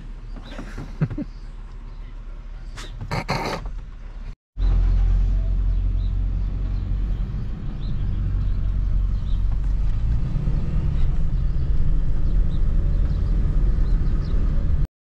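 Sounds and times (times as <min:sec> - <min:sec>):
road noise: 0:00.0 - 0:14.9
truck engine rumble: 0:00.0 - 0:14.9.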